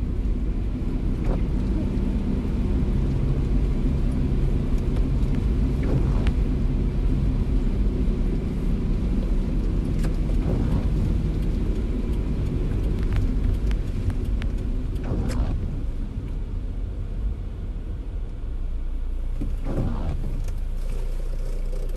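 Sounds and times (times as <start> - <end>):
car driving rumble: 0.0 - 21.9
rain ticking on car: 0.0 - 21.9.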